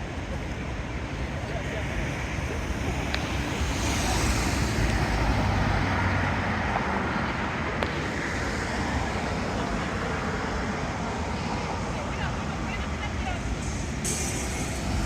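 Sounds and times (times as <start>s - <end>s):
road traffic hum: 0.0s - 15.0s
vehicle passing: 2.8s - 15.0s.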